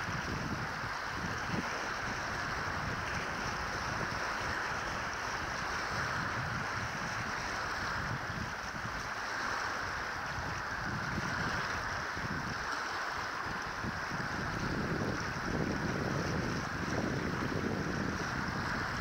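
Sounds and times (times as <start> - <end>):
choppy water: 0.0 - 19.0
wind buffeting microphone: 0.0 - 19.0.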